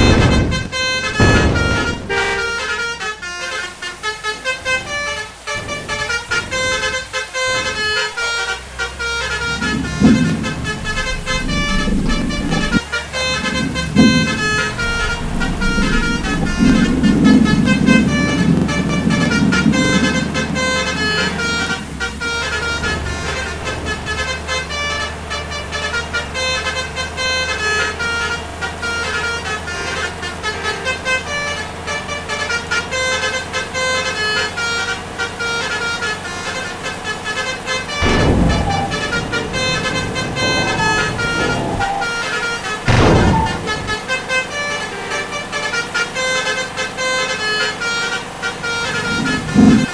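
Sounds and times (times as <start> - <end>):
loud bursts of noise: 0.0 - 49.9
low vehicle rumble: 0.0 - 49.9
multi-tone bus horns: 0.0 - 49.9.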